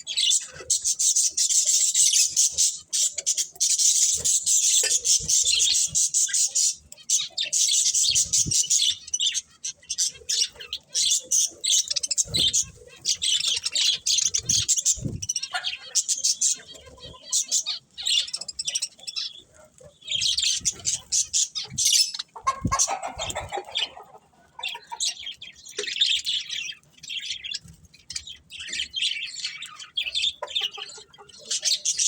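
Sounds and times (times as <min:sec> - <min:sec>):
budgerigars chirping and chattering: 0:00.0 - 0:32.0.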